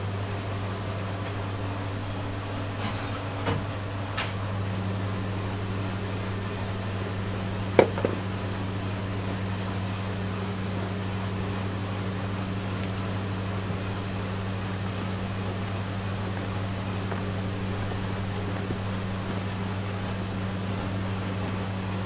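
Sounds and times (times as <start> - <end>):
kitchen machinery humming: 0.0 - 22.0.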